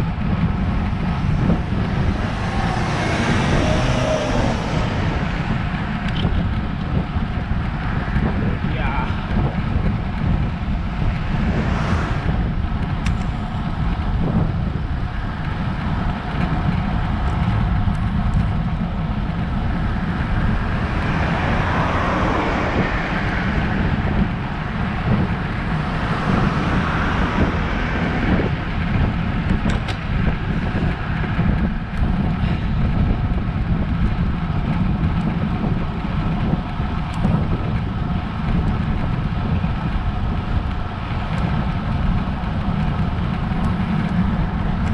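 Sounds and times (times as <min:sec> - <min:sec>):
wind rumbling on microphone: 0:00.0 - 0:44.9.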